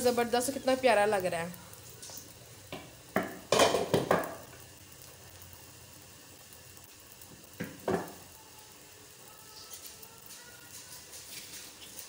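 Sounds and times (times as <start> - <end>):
flatbread sizzling on hot griddle: 0.0 - 12.0.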